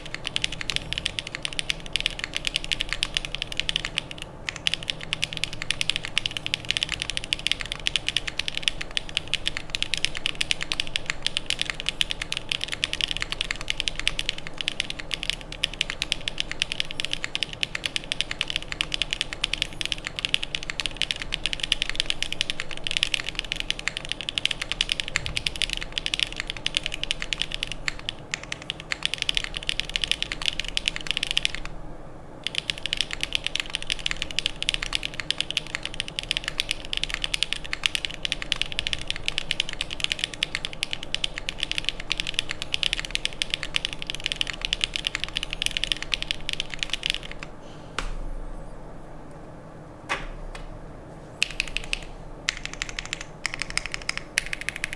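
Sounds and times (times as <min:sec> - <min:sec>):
separate keystrokes: 0:00.0 - 0:31.7, 0:32.4 - 0:47.5, 0:51.4 - 0:54.9
fast mechanical keyboard typing: 0:00.0 - 0:31.8, 0:32.4 - 0:47.6, 0:51.4 - 0:54.9.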